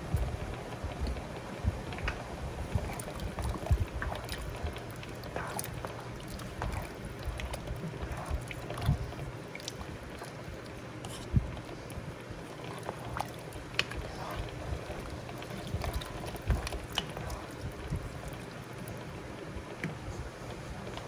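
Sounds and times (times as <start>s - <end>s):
soup heating on stove: 0.0s - 21.0s.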